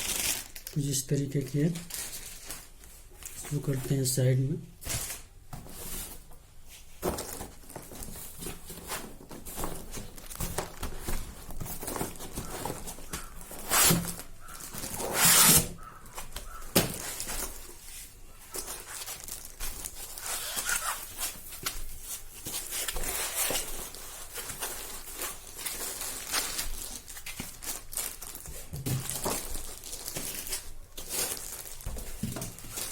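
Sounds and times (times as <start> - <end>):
packaging rustling: 0.0 - 4.2, 4.8 - 32.9.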